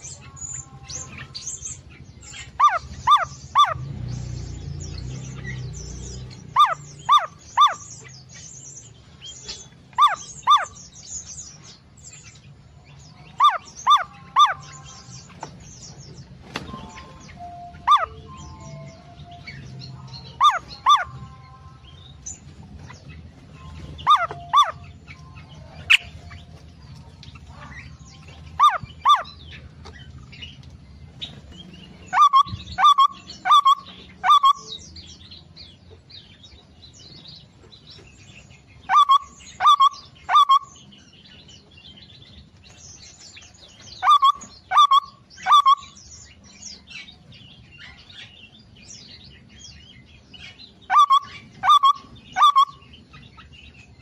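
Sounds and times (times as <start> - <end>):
soft bird chirping: 0.0 - 54.0
songbirds sharp calls: 0.0 - 54.0.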